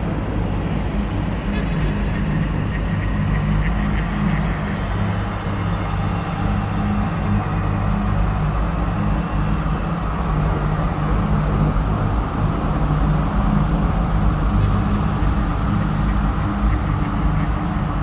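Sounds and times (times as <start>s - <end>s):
low rumbling drone: 0.0s - 18.0s.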